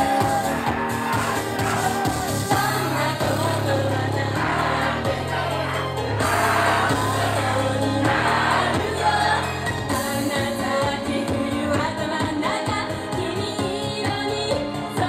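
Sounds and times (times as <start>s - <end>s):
amplified pop backing track: 0.0s - 15.0s
women singing together: 0.0s - 15.0s.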